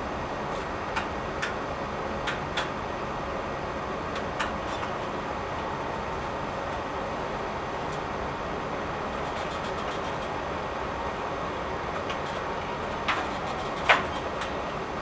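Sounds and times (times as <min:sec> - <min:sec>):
shelving unit mechanical rumble: 0:00.0 - 0:15.0.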